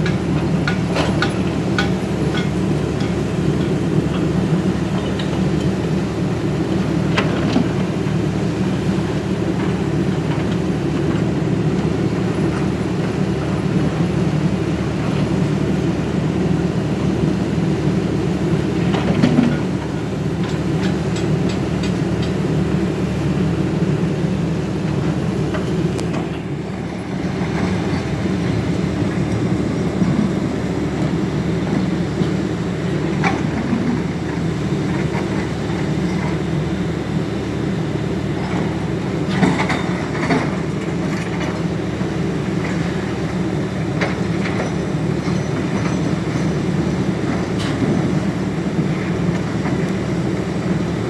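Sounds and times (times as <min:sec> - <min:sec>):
excavator diesel engine running: 0:00.0 - 0:51.0.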